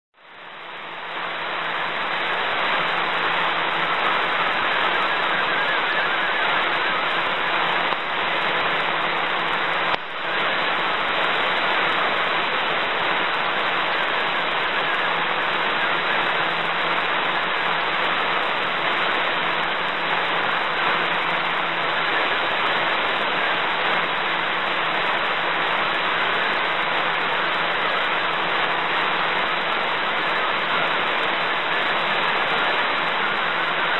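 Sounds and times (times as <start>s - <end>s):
radio hiss and static: 0.2s - 33.9s.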